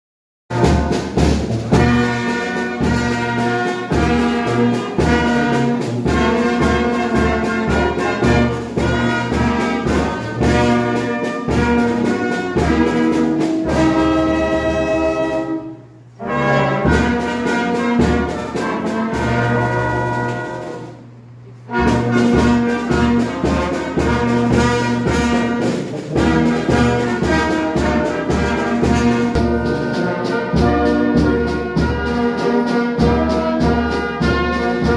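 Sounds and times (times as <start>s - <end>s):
brass music with trumpets and trombones: 0.5s - 34.9s
steady low beat: 0.5s - 34.9s.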